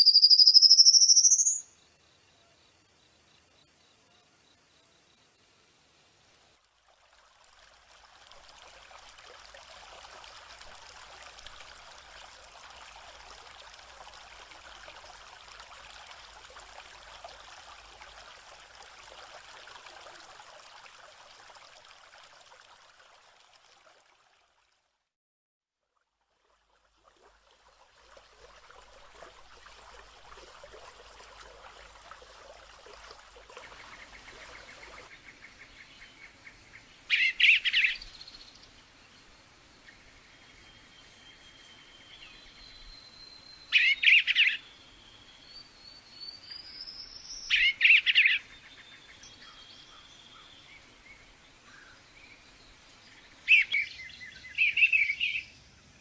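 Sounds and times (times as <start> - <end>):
stream of water trickling: 0.0 - 25.1, 25.7 - 56.0.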